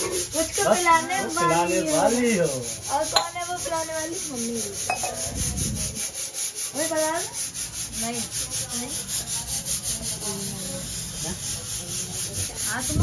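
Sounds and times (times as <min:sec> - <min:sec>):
fast rasping strokes: 0:00.0 - 0:13.0.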